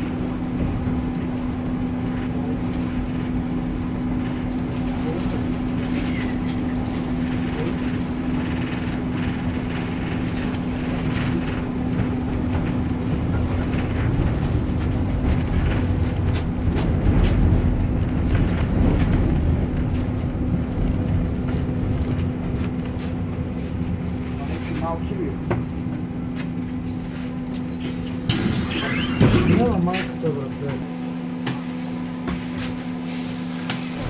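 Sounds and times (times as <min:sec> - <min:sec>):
tram hum: 0:00.0 - 0:31.2
wheels rumbling on rail: 0:00.0 - 0:34.0.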